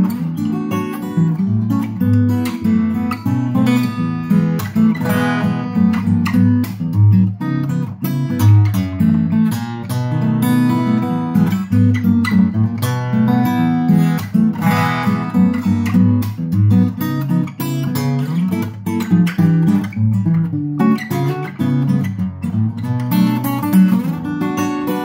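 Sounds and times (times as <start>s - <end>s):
fingerstyle acoustic guitar: 0.0s - 25.0s.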